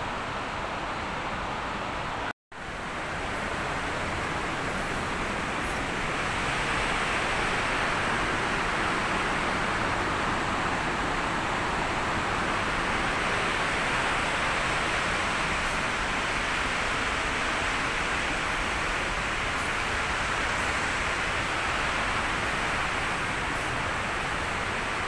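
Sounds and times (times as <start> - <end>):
fast river rushing: 0.1 - 25.0.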